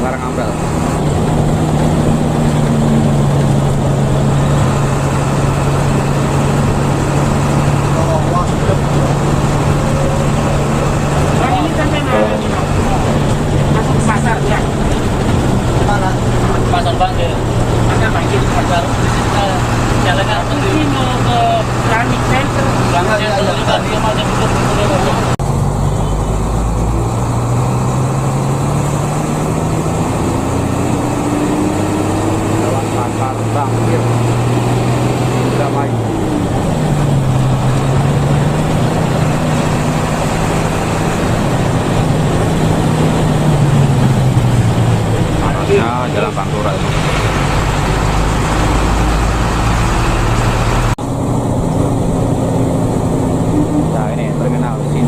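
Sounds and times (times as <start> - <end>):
bus engine low drone: 0.0 - 55.0
road noise: 0.0 - 55.0.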